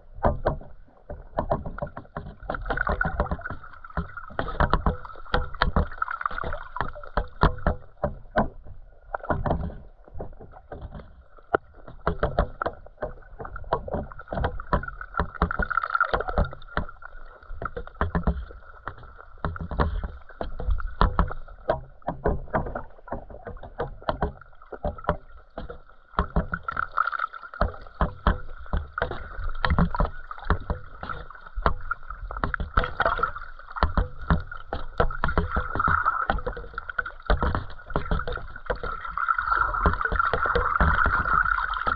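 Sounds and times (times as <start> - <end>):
underwater clicks and knocks: 0.0 - 41.9.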